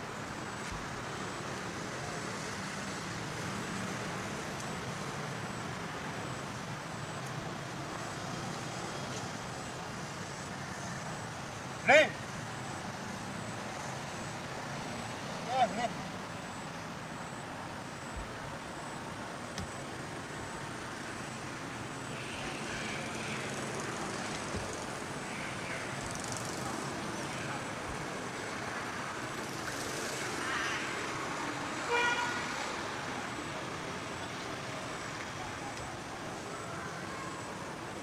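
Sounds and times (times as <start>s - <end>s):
outdoor background noise: 0.0s - 38.0s.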